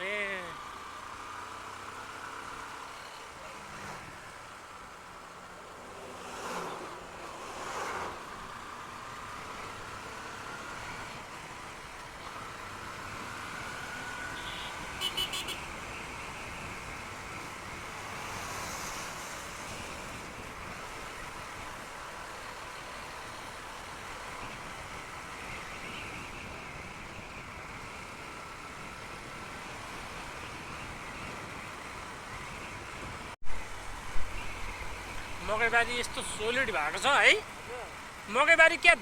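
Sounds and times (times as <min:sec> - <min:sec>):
motorcycle road noise: 0:00.0 - 0:39.0.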